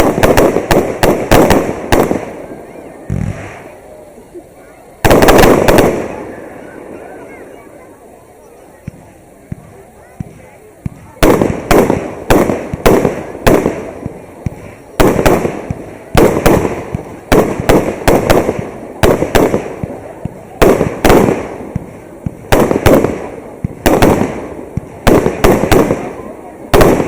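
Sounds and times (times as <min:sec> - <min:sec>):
fireworks shells bursting: 0:00.0 - 0:03.8, 0:05.0 - 0:07.1, 0:08.8 - 0:27.0.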